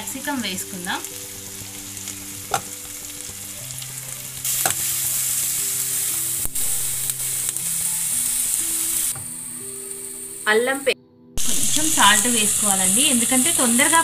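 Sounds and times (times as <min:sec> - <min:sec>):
onions sizzling in a pan: 0:00.0 - 0:10.8, 0:11.4 - 0:14.0.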